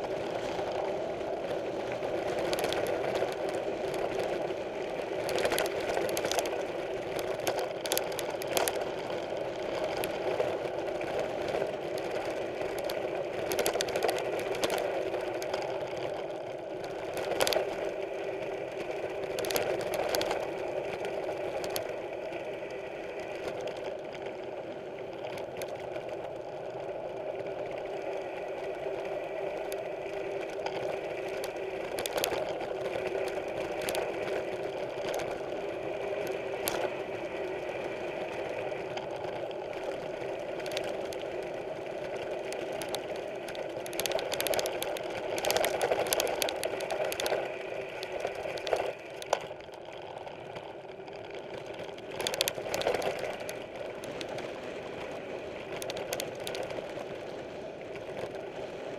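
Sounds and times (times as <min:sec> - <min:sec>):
bike freewheel hub buzzing: 0:00.0 - 0:58.9.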